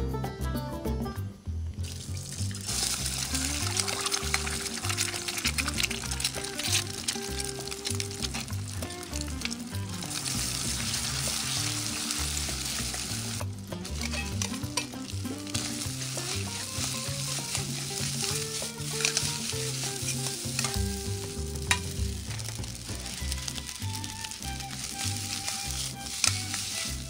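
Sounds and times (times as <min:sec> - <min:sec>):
background music: 0:00.0 - 0:27.0
food sizzling in a wok: 0:01.8 - 0:27.0
ladle clicking on pan: 0:01.8 - 0:27.0
metal ladle scraping a wok: 0:02.6 - 0:27.0.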